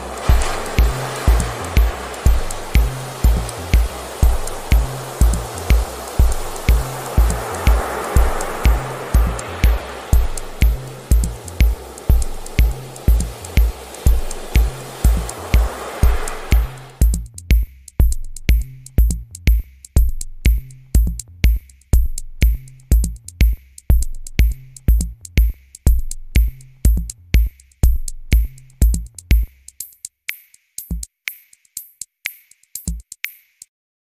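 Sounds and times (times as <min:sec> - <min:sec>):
low bass line: 0:00.0 - 0:29.3
heavy kick drum: 0:00.0 - 0:29.6.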